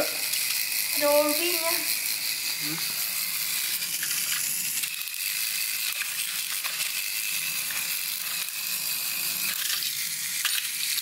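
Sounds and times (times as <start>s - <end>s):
toy train motor whirring: 0.0s - 11.0s.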